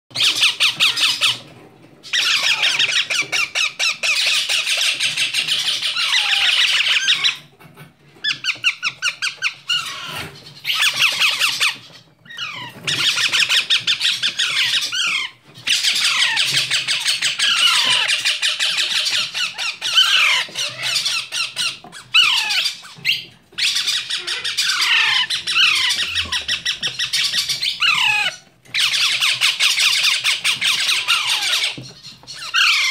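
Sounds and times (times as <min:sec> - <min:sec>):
squeaky chirps: 0:00.1 - 0:07.6, 0:08.2 - 0:32.9
parakeet chicks begging calls: 0:00.1 - 0:32.9.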